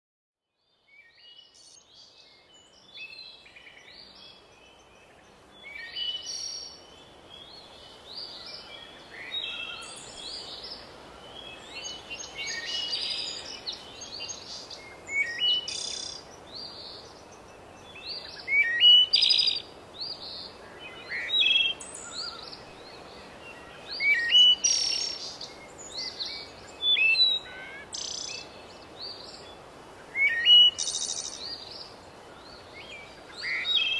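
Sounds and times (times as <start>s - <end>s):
faint background hiss: 0.5s - 33.9s
birds chirping and singing: 1.2s - 33.9s.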